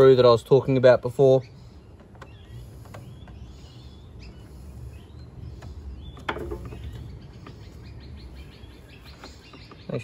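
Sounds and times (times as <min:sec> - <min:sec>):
birds chirping: 0:00.0 - 0:10.0
low outdoor noise: 0:00.0 - 0:10.0.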